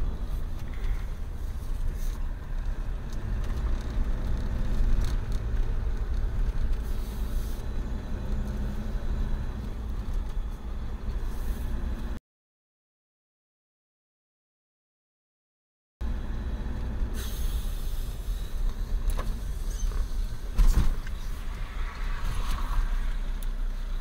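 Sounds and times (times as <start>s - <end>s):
engine and road rumble: 0.0s - 12.2s, 16.0s - 24.0s.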